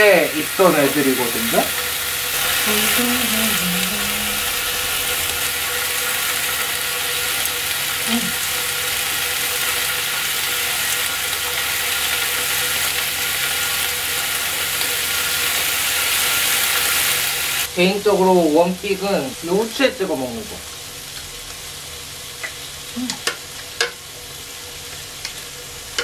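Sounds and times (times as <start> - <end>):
steaks sizzling on a grill pan: 0.0 - 26.0.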